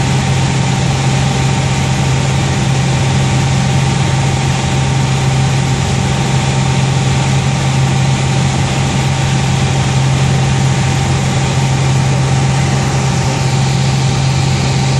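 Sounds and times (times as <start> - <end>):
propeller plane engine droning: 0.0 - 14.9
rush of air noise: 0.0 - 14.9.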